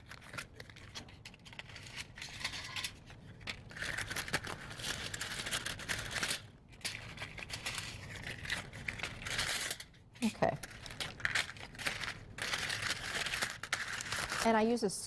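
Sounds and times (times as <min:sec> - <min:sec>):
foil liners crinkling: 0:00.0 - 0:15.0.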